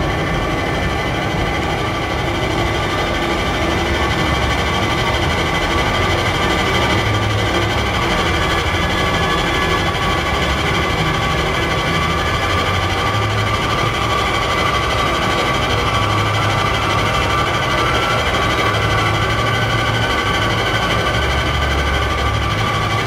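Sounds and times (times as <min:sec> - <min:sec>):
dense engine-like drone: 0:00.0 - 0:23.0.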